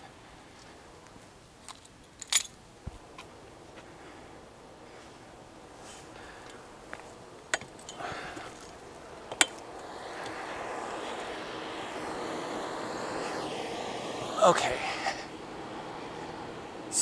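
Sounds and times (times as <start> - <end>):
steady rushing noise: 2.6 - 17.0.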